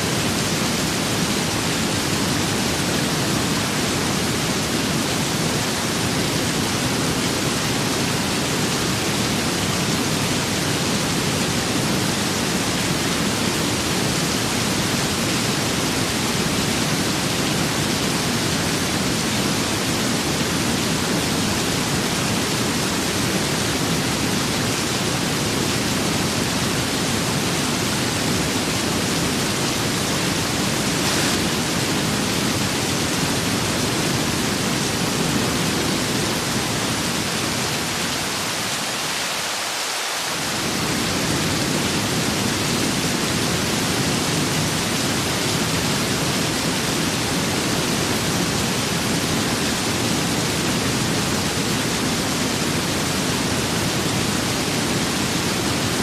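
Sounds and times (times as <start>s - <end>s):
rain and wind hiss: 0.0s - 56.0s.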